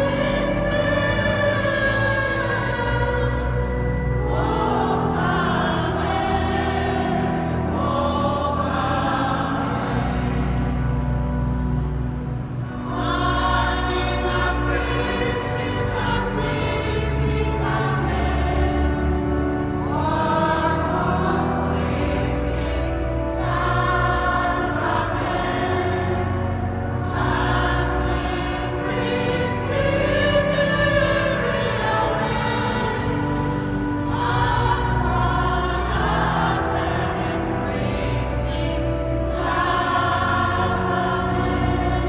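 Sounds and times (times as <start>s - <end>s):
choir singing: 0.0s - 42.0s.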